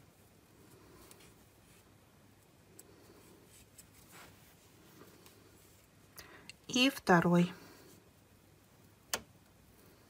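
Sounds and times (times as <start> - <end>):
faint yarn rustling: 0.0 - 10.0.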